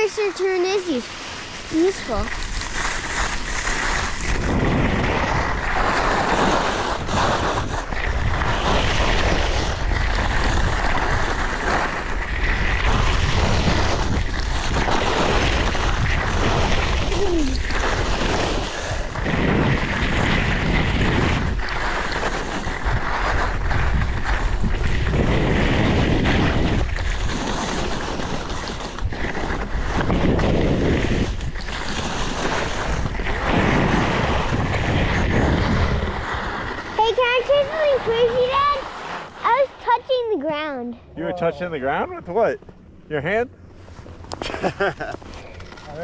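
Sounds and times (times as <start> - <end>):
skis scraping on snow: 0.0 - 42.4, 43.3 - 46.0
wind rushing over microphone: 0.0 - 46.0.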